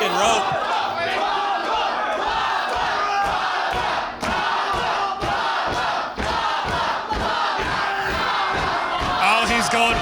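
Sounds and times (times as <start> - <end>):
crowd shouting and cheering: 0.0 - 10.0.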